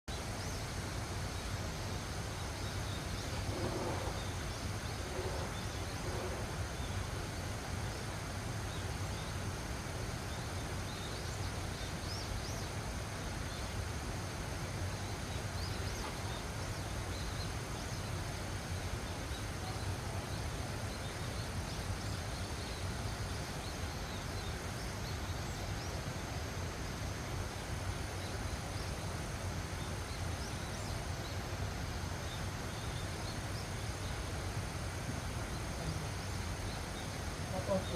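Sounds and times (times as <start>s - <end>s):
small birds chirping: 0.1s - 37.9s
steady wind with low rumble: 0.1s - 37.9s.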